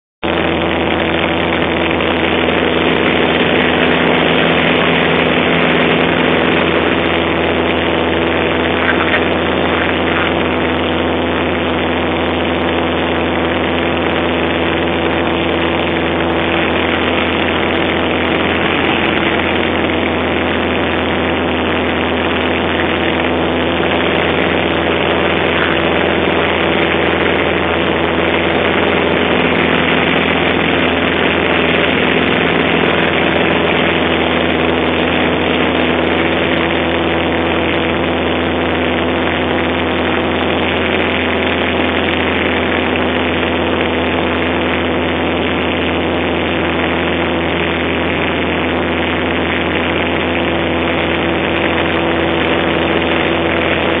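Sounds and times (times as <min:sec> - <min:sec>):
propeller plane engine droning: 0:00.2 - 0:54.0.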